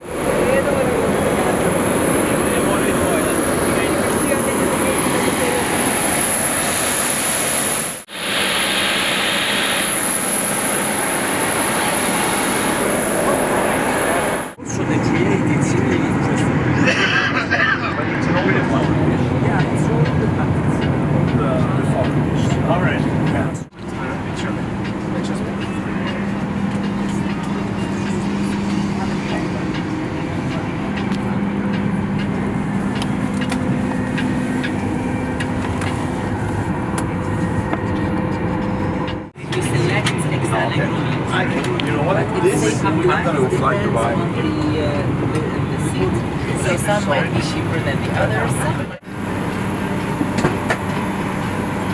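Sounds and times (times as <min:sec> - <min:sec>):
jet engine roaring and whining: 0:00.0 - 0:51.9.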